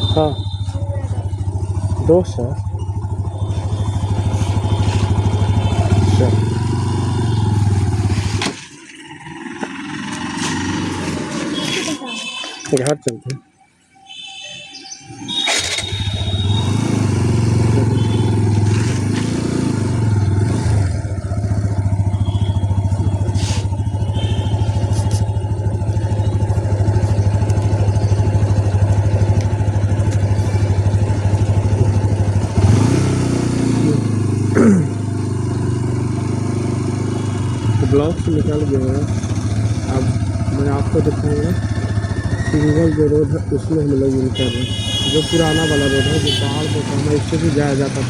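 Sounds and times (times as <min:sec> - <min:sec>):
motorcycle engine droning: 0:00.0 - 0:13.3, 0:14.0 - 0:48.0.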